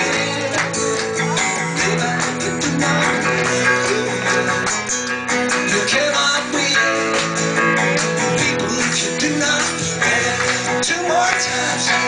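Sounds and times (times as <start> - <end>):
acoustic guitar strumming: 0.0 - 12.0
electric guitar: 0.0 - 12.0
man singing: 0.0 - 12.0.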